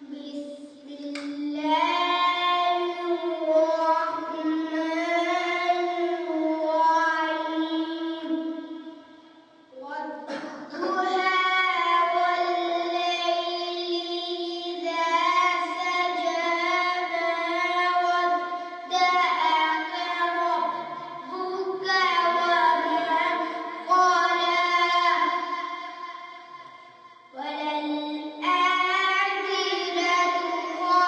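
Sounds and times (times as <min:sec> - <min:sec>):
boy singing into microphone: 0:00.0 - 0:09.1, 0:09.7 - 0:26.6, 0:27.3 - 0:31.0.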